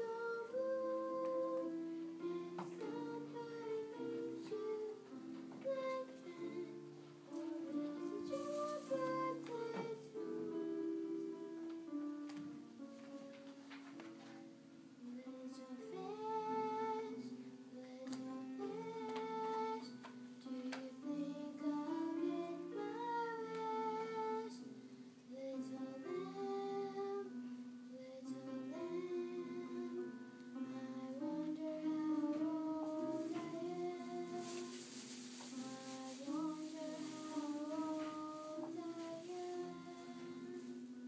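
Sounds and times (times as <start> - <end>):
girl singing: 0.0 - 12.7, 14.3 - 41.0.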